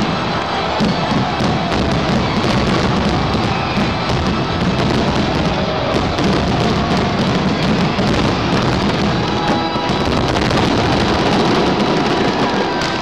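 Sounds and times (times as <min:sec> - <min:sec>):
crackling fireworks stars: 0:00.0 - 0:13.0
music playing: 0:00.0 - 0:13.0.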